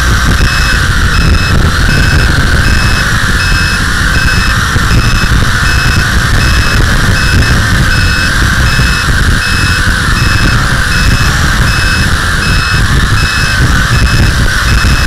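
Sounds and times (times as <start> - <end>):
quadcopter motors whining: 0.0 - 15.0
short electronic beeps: 0.0 - 15.0
wind rumbling on microphone: 0.0 - 15.0.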